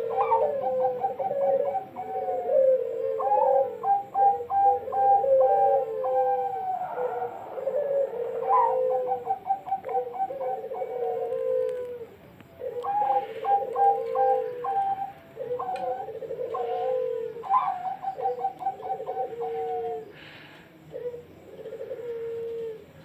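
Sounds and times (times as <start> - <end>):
dove cooing song: 0.0 - 23.0.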